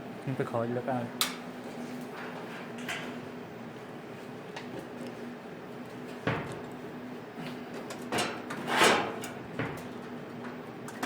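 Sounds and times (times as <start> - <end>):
equipment hum: 0.0 - 11.0.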